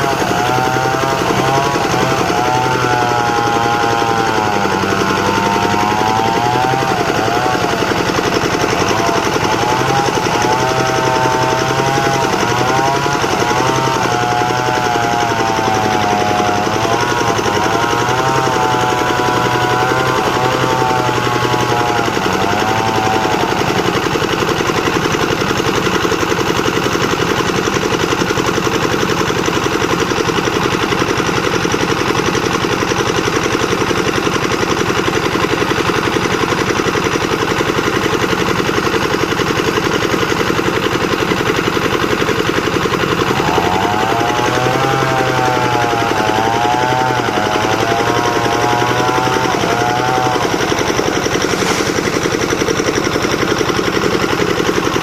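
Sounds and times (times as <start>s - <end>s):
sawmill machine running: 0.0s - 55.0s.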